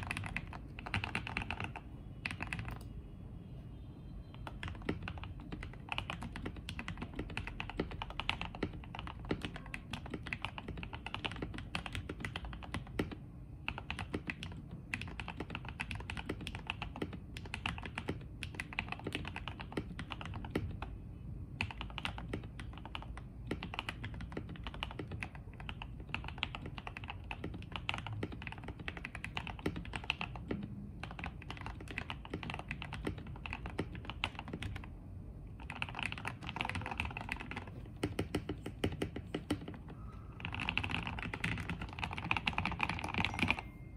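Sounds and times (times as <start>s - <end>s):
typing on mechanical keyboard: 0.0s - 2.9s, 4.4s - 20.9s, 21.6s - 34.9s, 35.6s - 43.6s.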